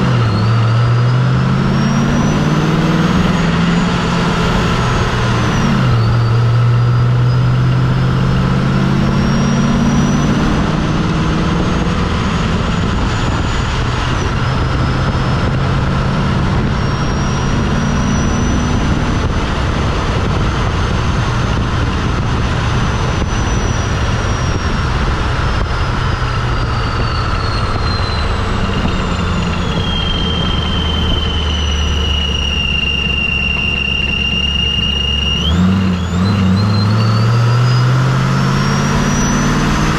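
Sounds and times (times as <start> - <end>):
car engine note: 0.0 - 39.9
supercharger whine: 0.0 - 39.9
wind noise: 0.0 - 39.9.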